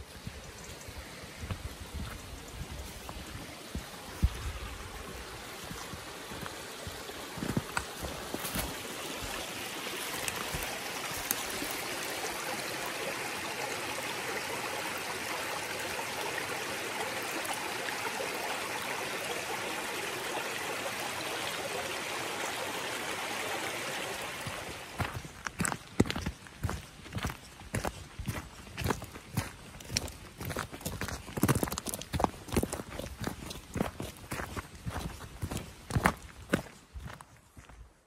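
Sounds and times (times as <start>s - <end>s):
stream running over stones: 0.0s - 37.9s.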